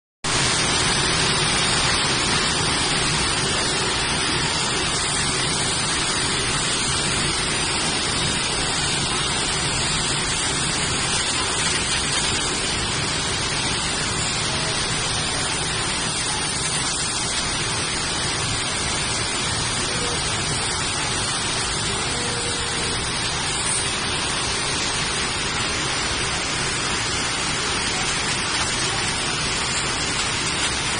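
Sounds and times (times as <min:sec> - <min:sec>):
looms weaving machine noise: 0:00.3 - 0:30.9.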